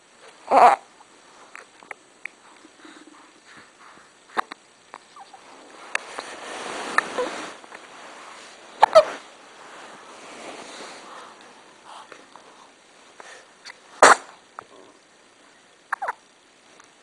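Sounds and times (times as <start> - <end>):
soft noise: 0.0 - 17.0.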